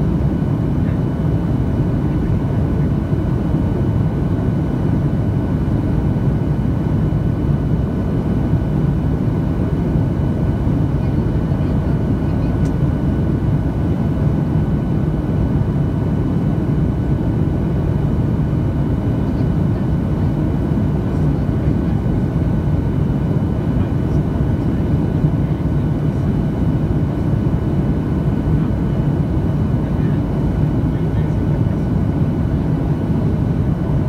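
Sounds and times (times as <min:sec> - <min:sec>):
airflow over fuselage: 0:00.0 - 0:34.0
jet engine rumble: 0:00.0 - 0:34.0.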